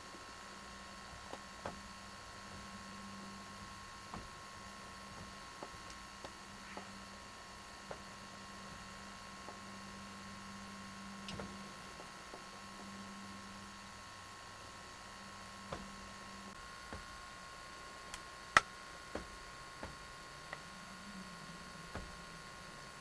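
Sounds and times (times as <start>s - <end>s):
camcorder running hum and hiss: 0.0s - 23.0s.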